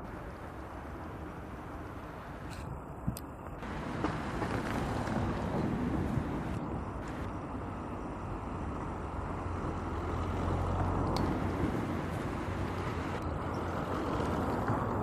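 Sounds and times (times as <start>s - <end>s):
outdoor rumble: 0.0s - 15.0s.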